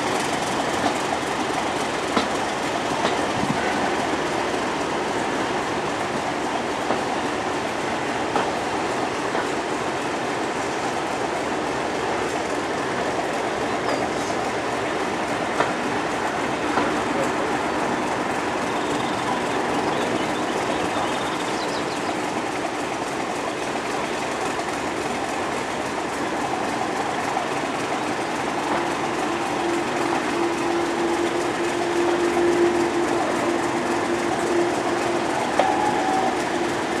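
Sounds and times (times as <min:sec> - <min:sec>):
train wheels clickety-clack: 0:00.0 - 0:37.0.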